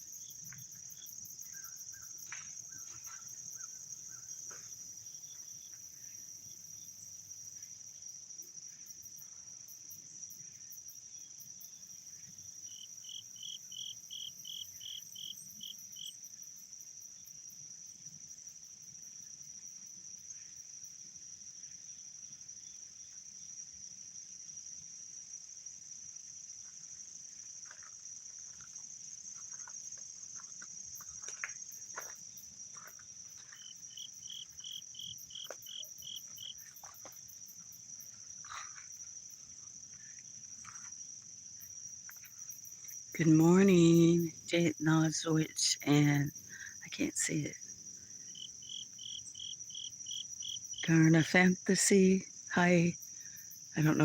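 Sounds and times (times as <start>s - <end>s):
crickets and insects chorus: 0.0s - 54.0s.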